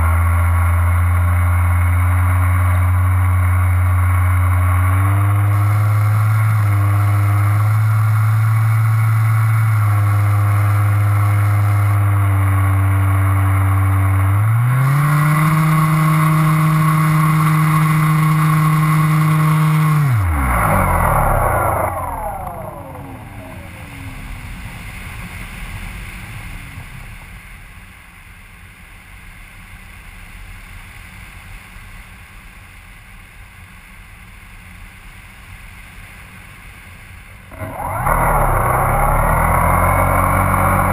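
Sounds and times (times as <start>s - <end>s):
small aircraft engine: 0.0s - 40.9s.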